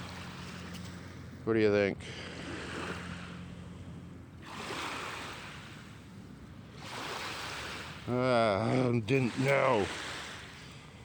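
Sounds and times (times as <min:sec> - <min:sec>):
small waves washing on beach: 0:00.0 - 0:01.0, 0:02.1 - 0:03.8, 0:04.4 - 0:11.0
wind: 0:00.0 - 0:11.0.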